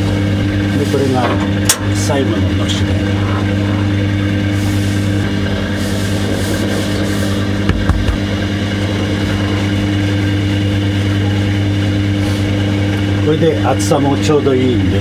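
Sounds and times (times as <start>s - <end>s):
dough-rolling machine humming: 0.0s - 15.0s.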